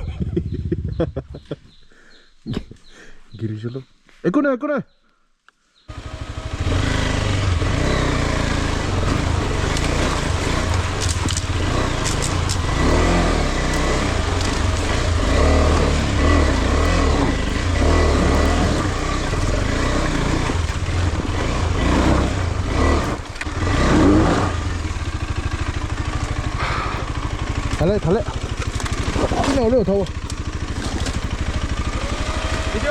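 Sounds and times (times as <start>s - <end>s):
motorcycle engine revving: 5.9s - 32.9s.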